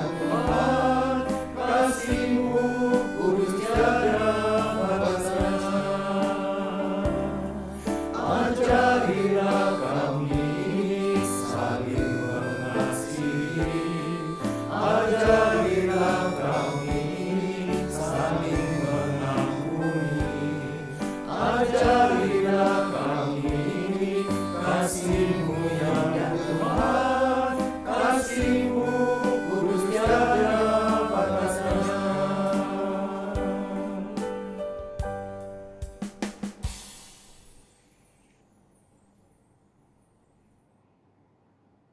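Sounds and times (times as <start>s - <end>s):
men's choir singing a hymn: 0.0s - 34.9s.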